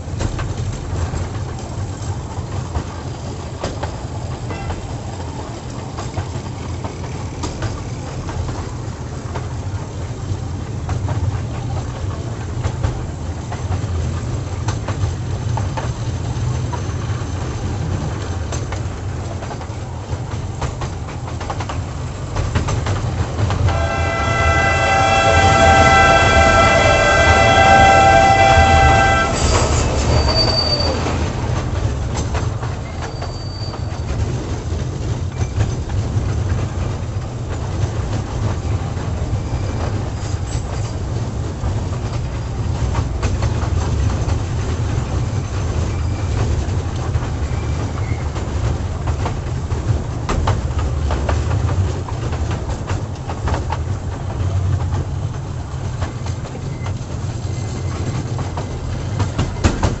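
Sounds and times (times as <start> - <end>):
toy train coaches rumbling: 0.0 - 60.0
wheels clicking over rail joints: 0.0 - 60.0.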